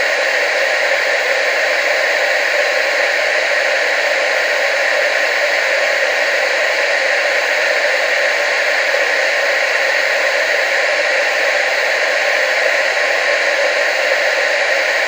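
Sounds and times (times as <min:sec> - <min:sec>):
television static hiss: 0:00.0 - 0:15.0.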